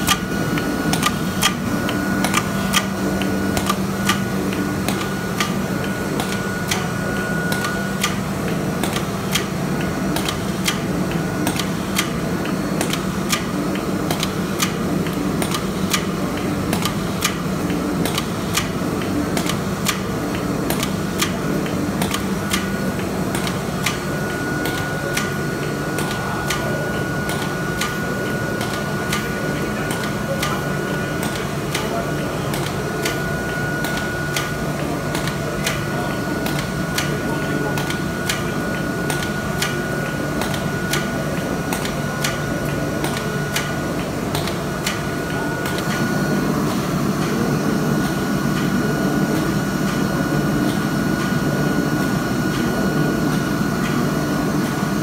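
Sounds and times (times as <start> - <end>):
machine mechanical hum: 0.0 - 55.0.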